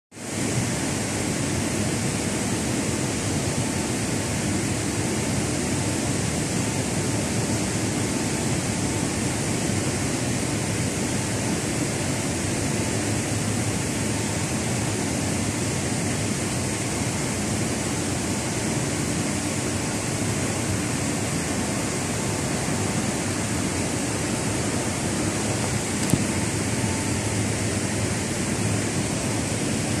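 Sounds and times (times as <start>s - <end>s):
faint high whine: 0.2s - 30.0s.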